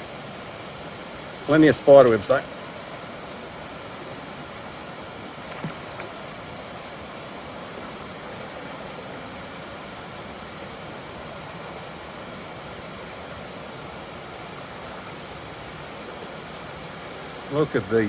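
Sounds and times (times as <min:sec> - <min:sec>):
creek flowing: 0:00.0 - 0:18.0.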